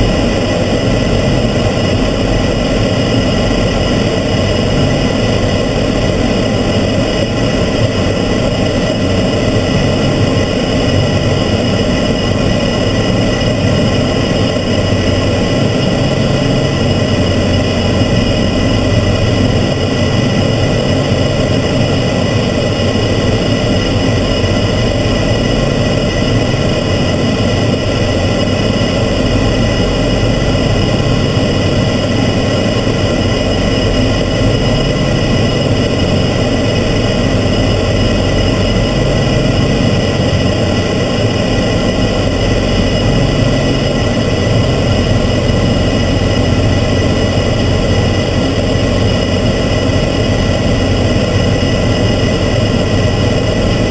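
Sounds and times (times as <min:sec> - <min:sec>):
turboprop engines droning: 0:00.0 - 0:53.9.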